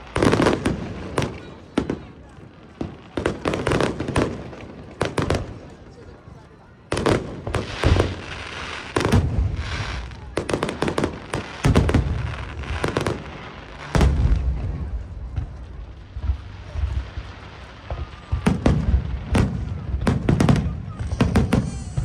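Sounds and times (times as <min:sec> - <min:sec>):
fireworks bangs and booms: 0:00.0 - 0:22.0
fireworks crackle: 0:00.0 - 0:22.0.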